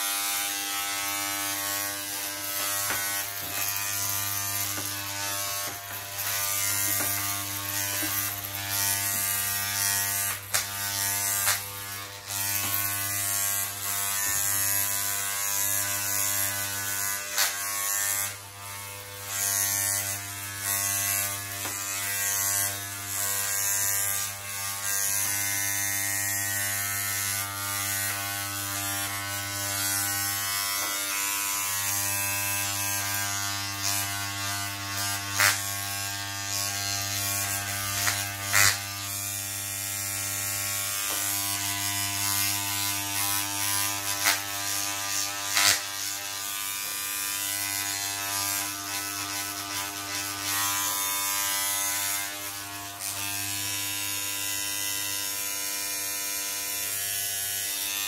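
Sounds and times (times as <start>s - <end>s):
electric hair clippers buzzing: 0.0s - 58.0s.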